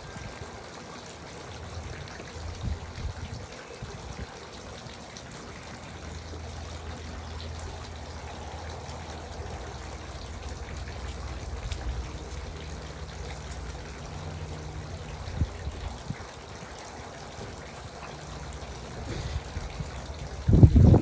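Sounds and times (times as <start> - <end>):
fountain trickling and splashing: 0.0 - 21.0.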